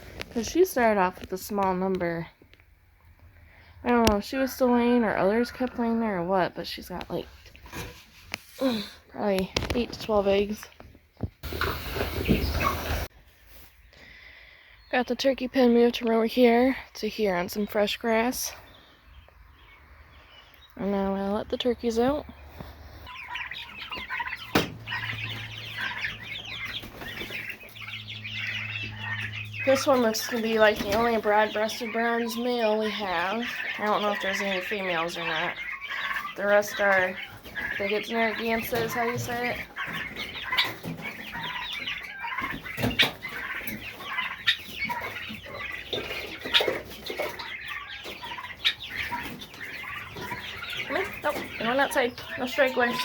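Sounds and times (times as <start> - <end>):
young turkeys peeping and chirping: 0.0 - 53.0.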